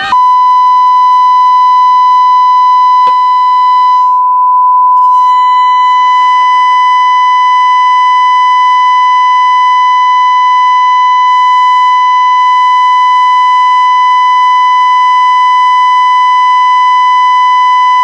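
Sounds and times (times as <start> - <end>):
high-pitched electronic alarm tone: 0.0 - 18.0.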